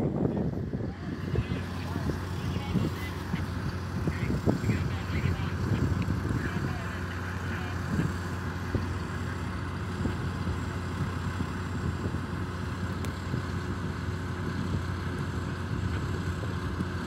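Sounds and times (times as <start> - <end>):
heavy machinery engine humming: 0.0 - 17.0.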